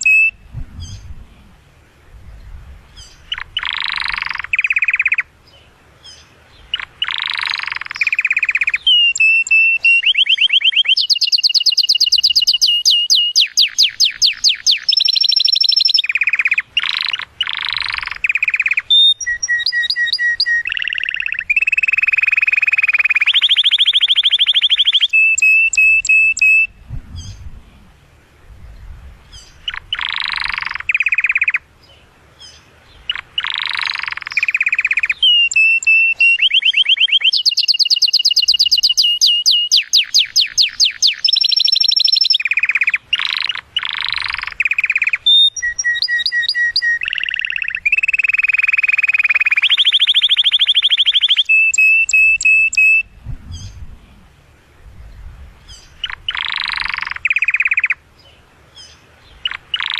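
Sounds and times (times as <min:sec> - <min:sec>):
canary singing trills: 0:00.0 - 0:01.1, 0:02.9 - 0:27.4, 0:29.3 - 0:53.8, 0:55.6 - 0:59.9.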